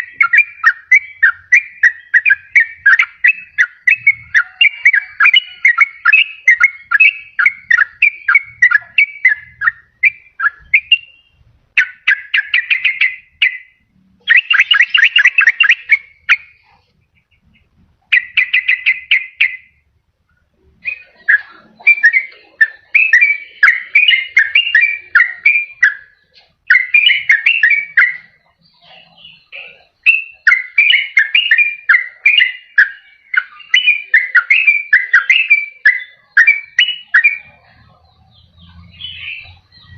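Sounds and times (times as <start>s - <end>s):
fast rattling bird trills: 0.0s - 19.7s, 20.8s - 39.9s
bulbul singing: 0.0s - 39.9s.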